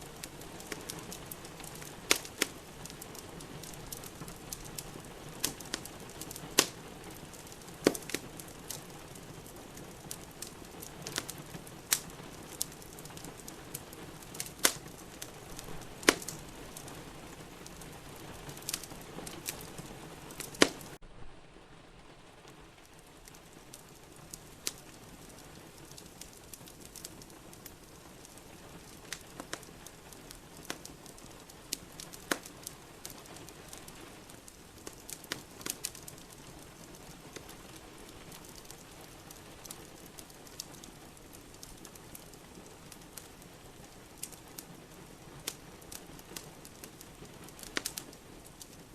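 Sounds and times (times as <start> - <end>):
rain hissing: 0.0 - 48.9
wood fire crackling and popping: 0.0 - 48.9.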